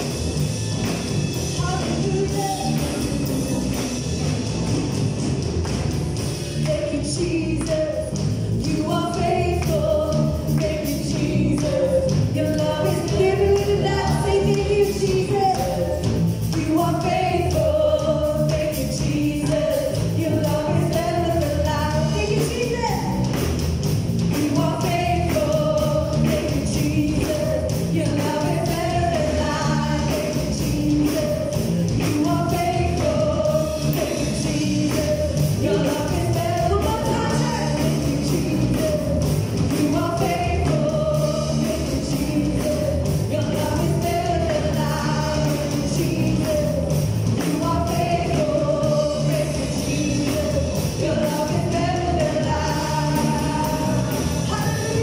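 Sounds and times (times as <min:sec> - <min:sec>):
band with keyboard and drums: 0:00.0 - 0:55.0
singers singing melody: 0:06.2 - 0:23.2, 0:24.2 - 0:55.0.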